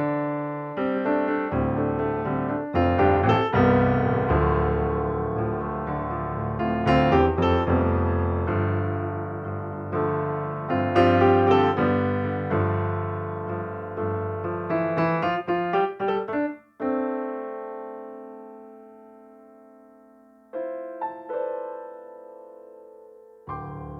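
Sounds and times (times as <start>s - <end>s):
solo piano music: 0.0s - 23.9s.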